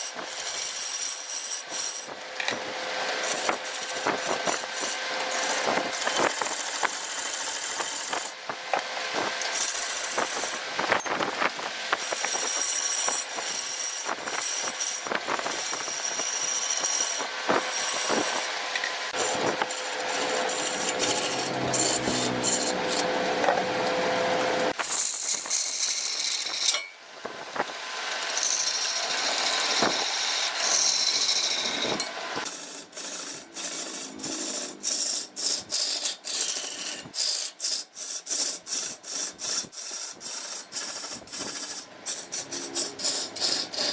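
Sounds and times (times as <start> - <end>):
wood lathe tool rasping: 0.0 - 10.8, 11.9 - 26.7, 28.1 - 43.9.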